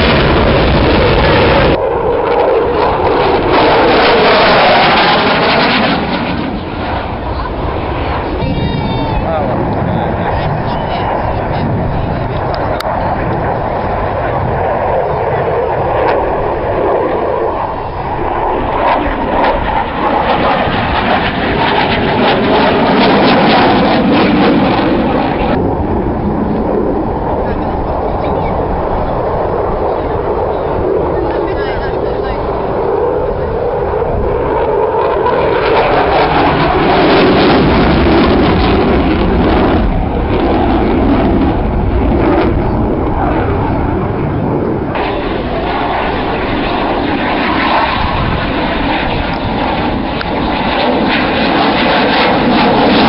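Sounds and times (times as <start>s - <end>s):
aircraft engine roaring: 0.0s - 53.0s.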